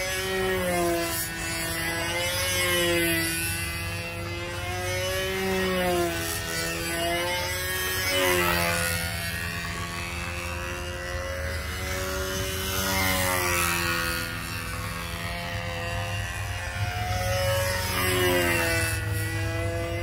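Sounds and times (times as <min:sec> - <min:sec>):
model plane engine buzzing: 0:00.0 - 0:20.0.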